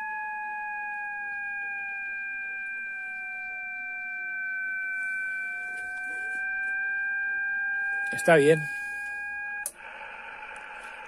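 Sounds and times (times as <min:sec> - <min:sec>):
radio beat-note whistle: 0:00.0 - 0:10.8.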